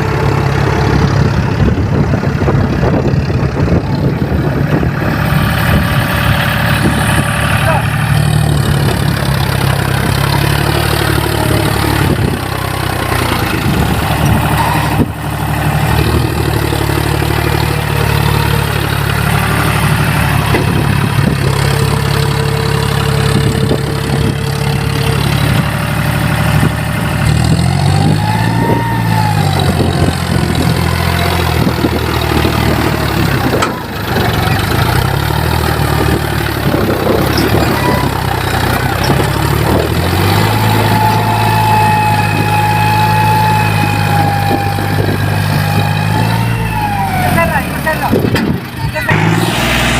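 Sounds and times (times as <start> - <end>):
tractor diesel engine revving: 0.0 - 49.9.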